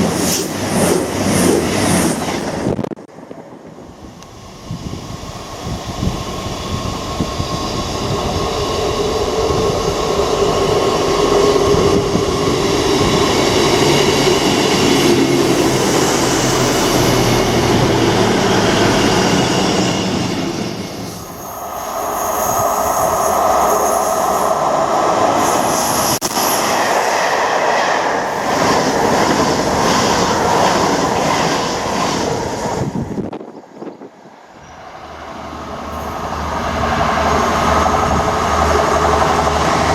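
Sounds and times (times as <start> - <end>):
passenger trains passing: 0.0 - 39.9.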